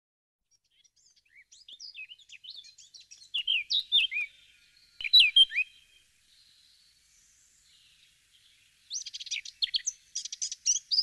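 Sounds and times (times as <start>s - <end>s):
bird singing whistled notes: 0.6s - 11.0s.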